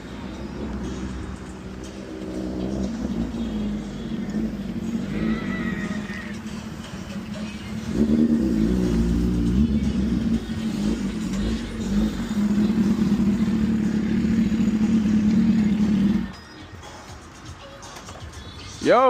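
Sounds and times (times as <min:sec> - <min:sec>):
vehicle engine running: 0:00.0 - 0:16.4.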